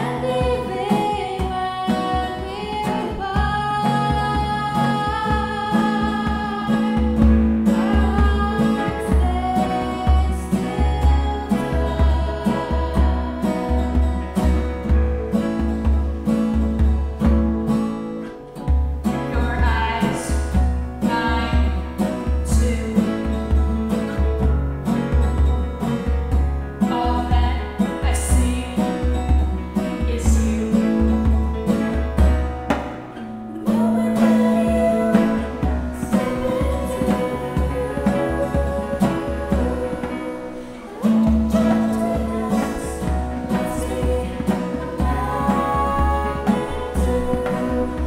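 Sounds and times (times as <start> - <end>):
guitar: 0.0 - 48.0
pulsing bass: 0.0 - 48.0.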